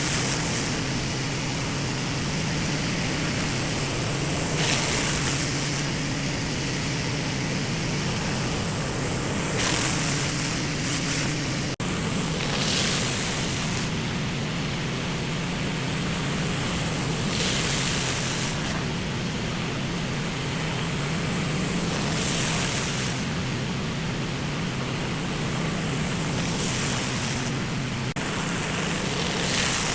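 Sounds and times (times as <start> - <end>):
high-pressure water spray hissing: 0.0 - 29.9
pressure washer engine humming: 0.0 - 29.9.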